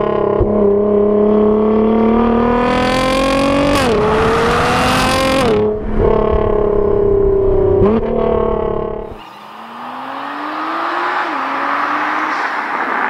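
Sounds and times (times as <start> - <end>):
car engine at high revs: 0.0 - 13.0
distant car approaching: 0.0 - 13.0.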